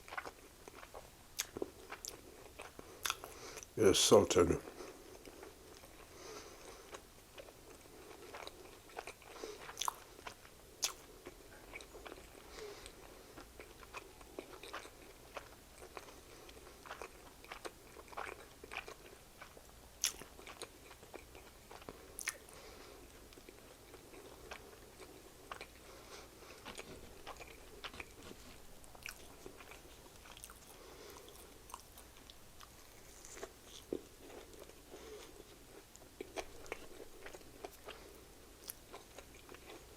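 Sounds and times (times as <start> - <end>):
person chewing food: 0.0 - 3.8, 4.4 - 39.9.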